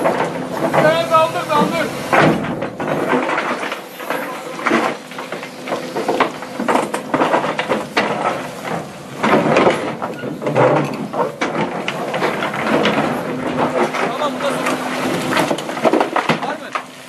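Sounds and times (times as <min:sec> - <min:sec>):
rocks clattering against steel: 0:00.0 - 0:17.0.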